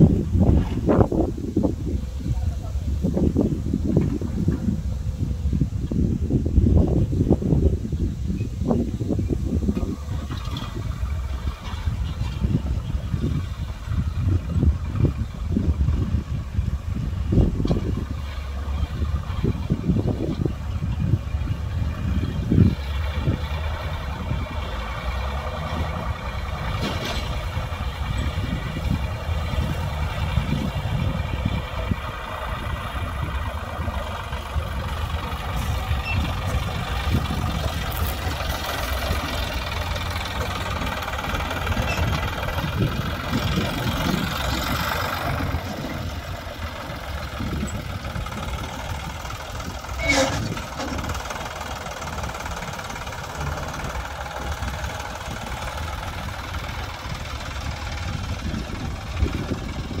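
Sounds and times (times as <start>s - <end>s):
tractor diesel engine running: 0.0s - 60.0s.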